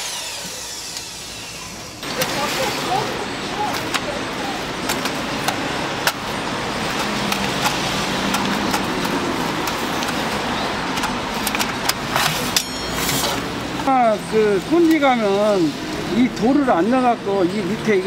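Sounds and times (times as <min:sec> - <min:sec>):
street background noise: 0:00.0 - 0:18.0.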